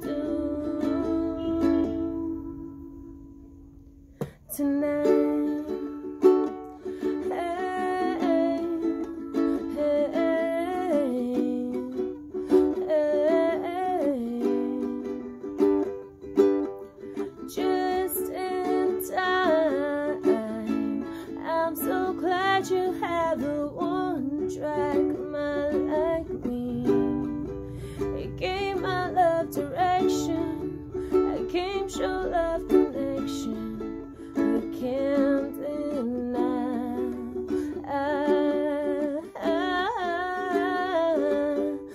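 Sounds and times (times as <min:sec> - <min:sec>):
woman singing: 0:00.0 - 0:03.2, 0:04.4 - 0:15.9, 0:17.0 - 0:41.9
ukulele strumming: 0:00.0 - 0:41.9.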